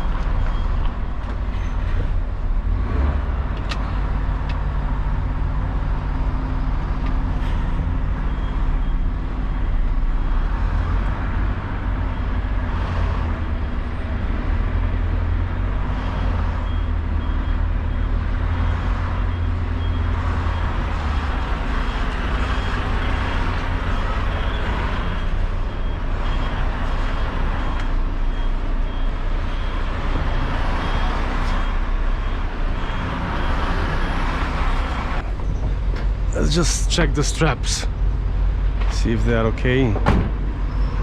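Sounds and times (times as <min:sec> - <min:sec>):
diesel lorry engine running: 0:00.0 - 0:41.0.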